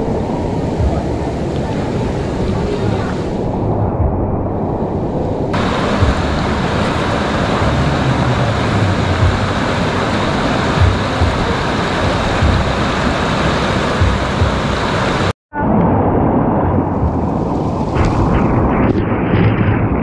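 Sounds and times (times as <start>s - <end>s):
low wind buffeting: 0.0s - 20.0s
wind and road noise: 0.0s - 20.0s.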